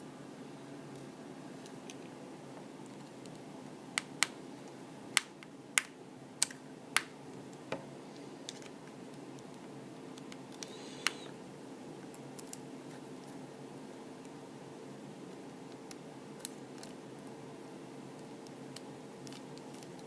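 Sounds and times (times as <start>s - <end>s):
faint room hum: 0.0s - 20.0s.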